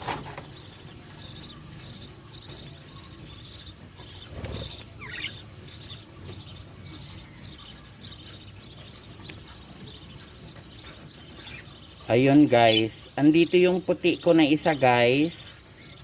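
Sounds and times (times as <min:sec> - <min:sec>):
budgerigars chirping: 0:00.3 - 0:16.0.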